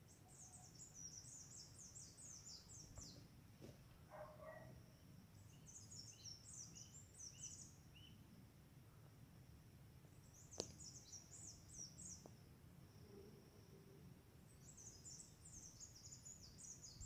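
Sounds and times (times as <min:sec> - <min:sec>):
small songbird singing: 0:00.0 - 0:03.3, 0:04.1 - 0:08.2, 0:10.1 - 0:17.0.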